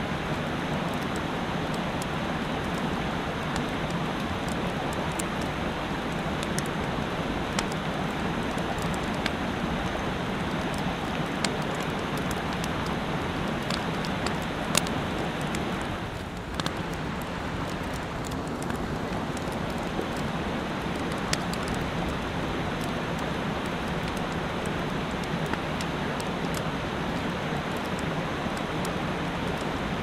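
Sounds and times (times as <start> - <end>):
mountain stream rushing: 0.0 - 30.0.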